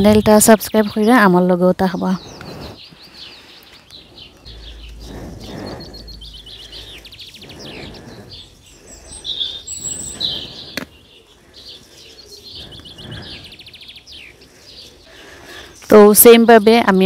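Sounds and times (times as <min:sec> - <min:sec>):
birds chirping and singing: 0:00.0 - 0:17.0.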